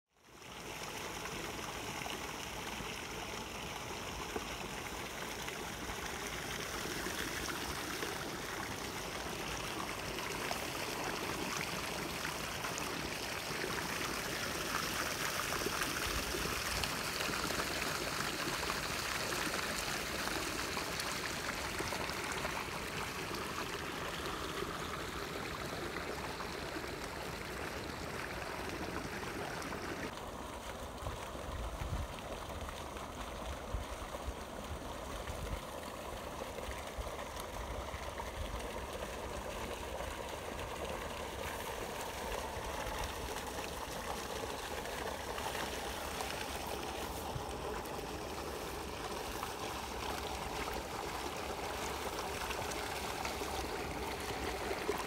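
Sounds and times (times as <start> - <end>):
water running and trickling: 0.3 - 55.0.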